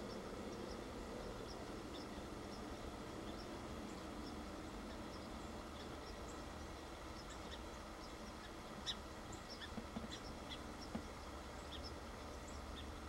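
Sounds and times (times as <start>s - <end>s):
high chirps and ticks: 0.0s - 13.0s
steady hiss: 0.0s - 13.0s.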